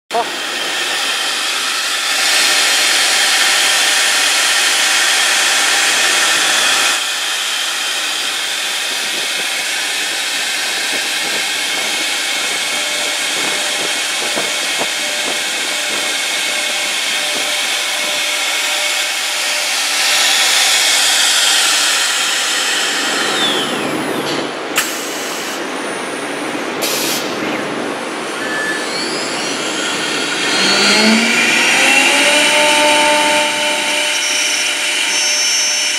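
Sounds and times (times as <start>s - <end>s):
cnc router spindle cutting: 0.1s - 25.6s, 28.0s - 35.9s.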